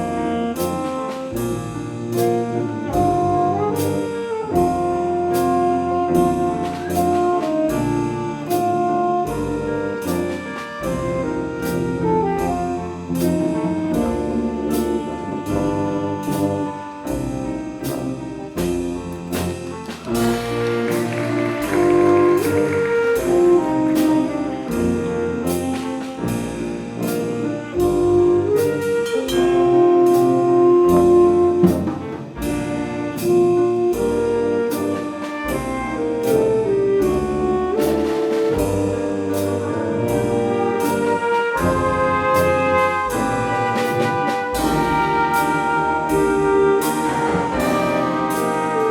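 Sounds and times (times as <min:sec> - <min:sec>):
drum kit steady beat: 0:00.0 - 0:48.9
jazz horns playing melody: 0:00.0 - 0:48.9.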